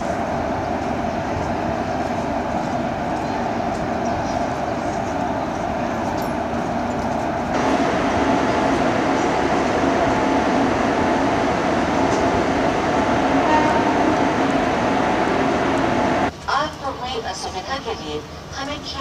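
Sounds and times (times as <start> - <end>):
electric locomotive drone: 0.0 - 16.4.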